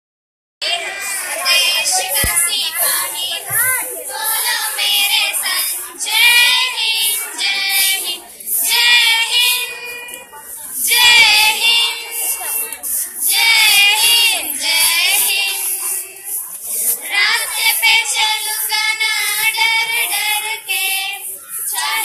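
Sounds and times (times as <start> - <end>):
girls singing together: 0.6 - 22.0.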